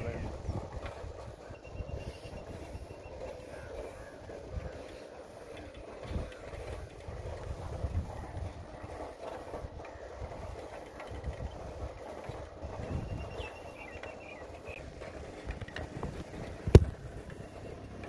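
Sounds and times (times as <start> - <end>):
bicycle rattle: 0.0 - 18.0
wind buffeting microphone: 0.0 - 18.0.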